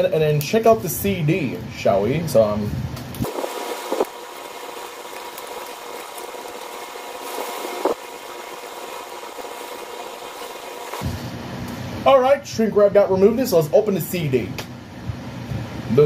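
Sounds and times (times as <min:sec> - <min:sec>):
room hum and hiss: 0:00.0 - 0:16.0.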